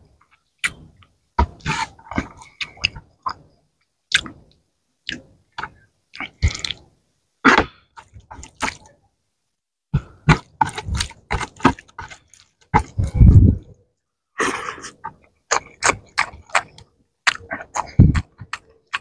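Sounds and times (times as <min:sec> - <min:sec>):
wet chewing and mouth sounds: 0:00.2 - 0:06.9, 0:07.5 - 0:09.0, 0:10.0 - 0:13.8, 0:14.8 - 0:19.0.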